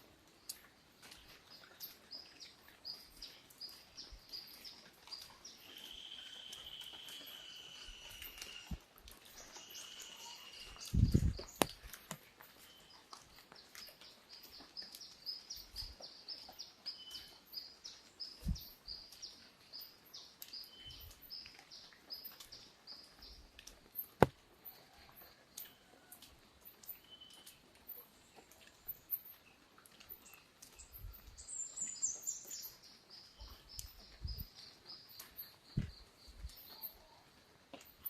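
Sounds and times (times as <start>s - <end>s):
faint rural background: 0.0s - 38.0s.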